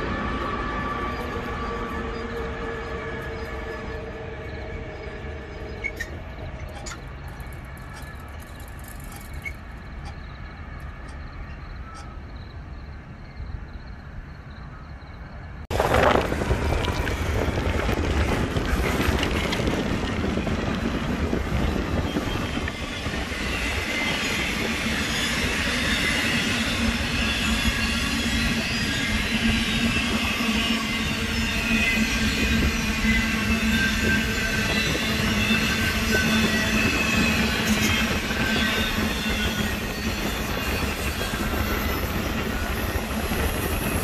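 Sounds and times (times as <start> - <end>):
train passing close by: 0.0 - 44.0.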